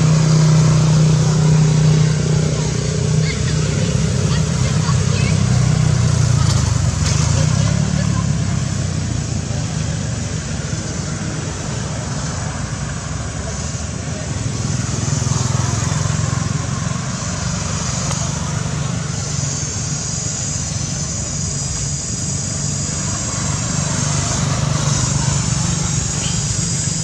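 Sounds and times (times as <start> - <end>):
high steady buzz: 0.0 - 27.0.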